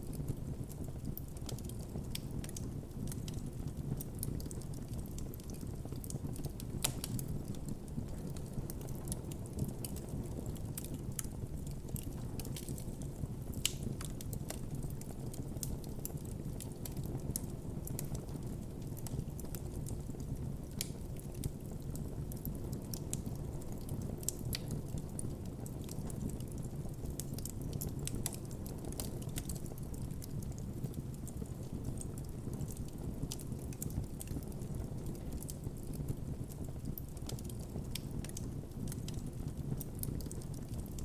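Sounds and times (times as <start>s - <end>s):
campfire burning: 0.0s - 41.0s
wood crackling and popping: 0.0s - 41.0s.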